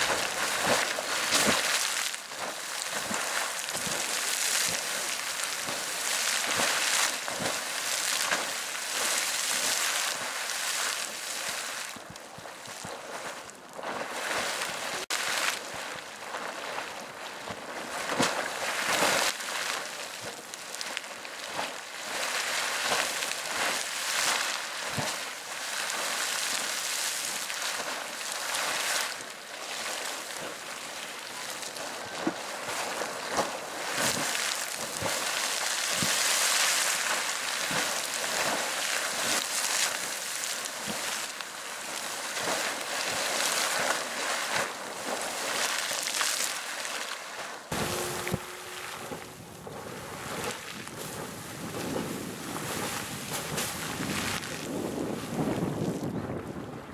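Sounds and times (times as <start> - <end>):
sharp water splashes: 0.0 - 12.0, 14.0 - 54.8
geyser water rushing and splashing: 0.0 - 56.8.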